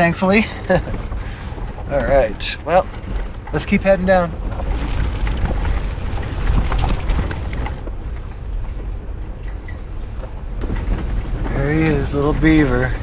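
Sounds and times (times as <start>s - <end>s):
engine and tyres rumbling: 0.0s - 13.0s
knocks and rattles: 0.0s - 13.0s.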